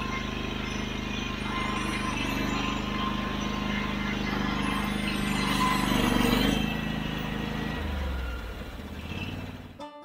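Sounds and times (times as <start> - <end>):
sawmill engine running: 0.0 - 9.8.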